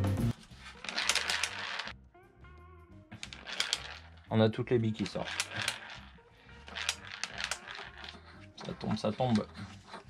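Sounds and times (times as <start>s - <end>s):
steel balls clattering: 0.6s - 2.0s, 3.2s - 10.0s.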